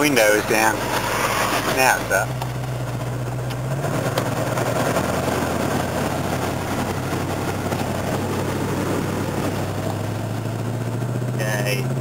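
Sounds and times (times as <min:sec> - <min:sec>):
water rushing and splashing: 0:00.0 - 0:10.4.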